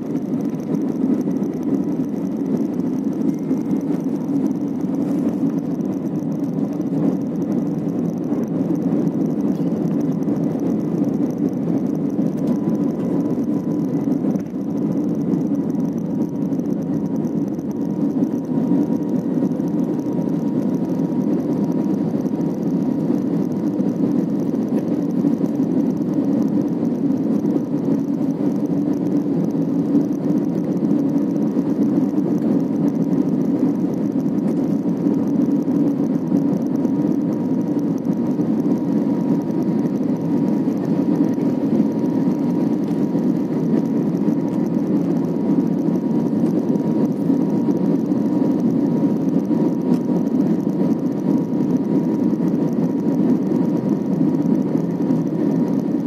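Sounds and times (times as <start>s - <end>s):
faint steady hum: 0.0s - 56.0s
jet cabin engine noise: 0.0s - 56.0s.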